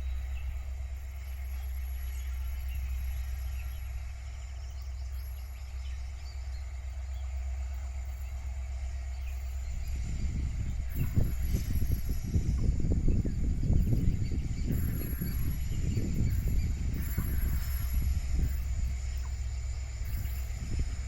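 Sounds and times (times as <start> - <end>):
faint bird chirps: 0.0 - 21.0
low outdoor rumble: 0.0 - 21.0.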